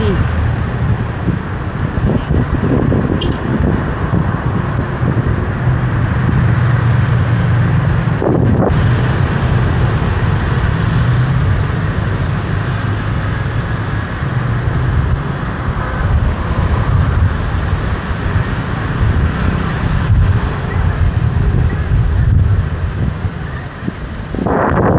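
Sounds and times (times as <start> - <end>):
road noise: 0.0 - 24.9
vehicle engine hum: 0.0 - 24.9
wind noise: 0.0 - 24.9.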